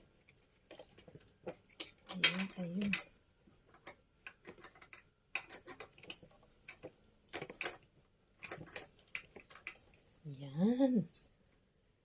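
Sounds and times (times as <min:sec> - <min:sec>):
small hard parts clicking: 0:00.2 - 0:10.1.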